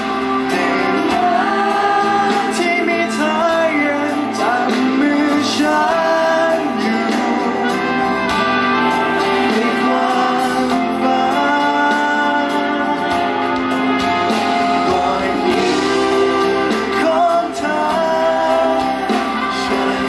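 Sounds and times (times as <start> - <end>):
man singing into a microphone: 0.0 - 8.3, 9.2 - 13.4, 14.6 - 20.0
live band with electric guitar: 0.0 - 20.0.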